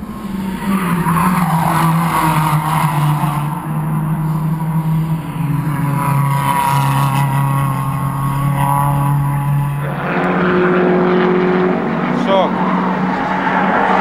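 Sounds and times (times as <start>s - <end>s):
race car engines at high revs: 0.0s - 14.0s.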